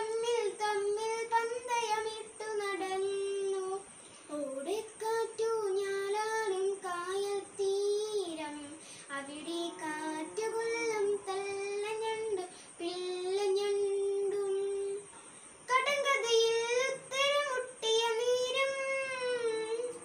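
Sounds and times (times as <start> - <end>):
boy singing: 0.0 - 20.0.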